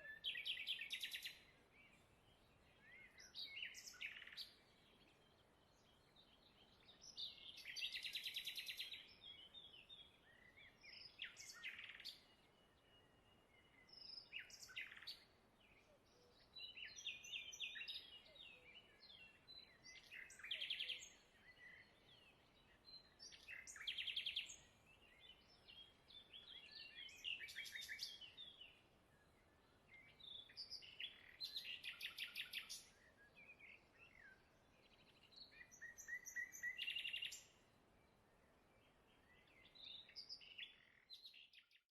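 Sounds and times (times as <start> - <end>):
faint birdsong with trills: 0.0 - 41.9.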